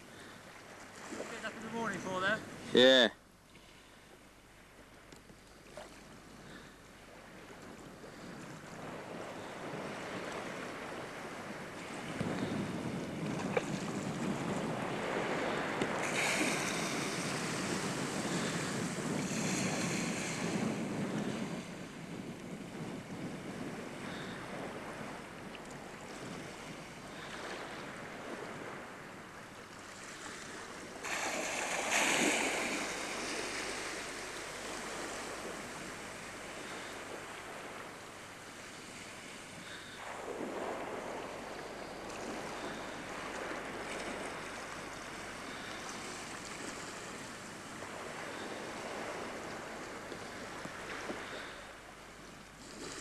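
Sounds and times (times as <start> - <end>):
sea surf breaking: 0.0 - 3.1, 7.4 - 51.9
wind on microphone: 5.7 - 53.0.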